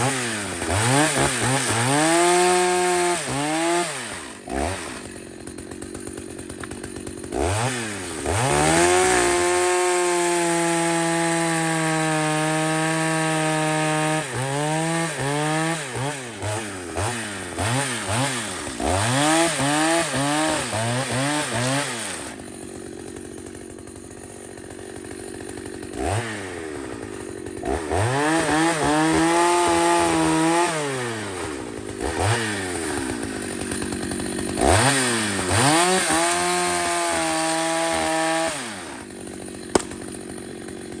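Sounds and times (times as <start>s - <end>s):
chainsaw revving: 0.0s - 41.0s.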